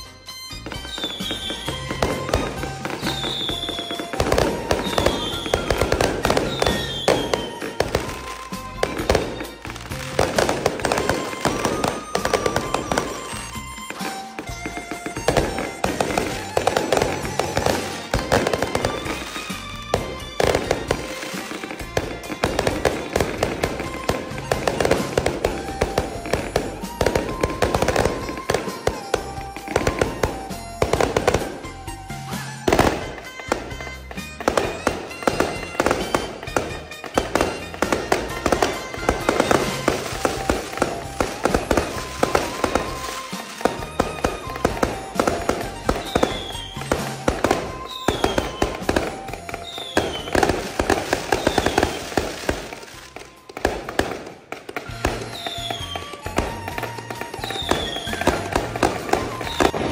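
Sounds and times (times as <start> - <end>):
fireworks banging and crackling: 0.0 - 59.9.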